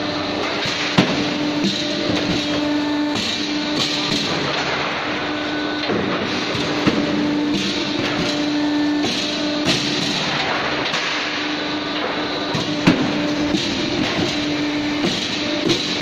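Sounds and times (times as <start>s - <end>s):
roll-forming machine humming: 0.0s - 16.0s.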